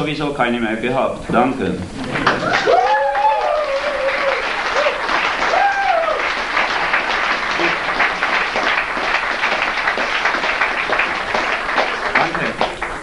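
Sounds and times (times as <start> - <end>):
small audience applauding: 2.0 - 13.0.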